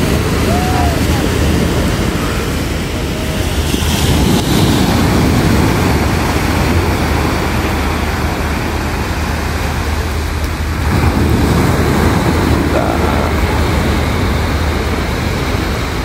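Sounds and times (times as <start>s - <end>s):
surf breaking on beach: 0.0s - 16.0s
wind rumble on microphone: 0.0s - 16.0s.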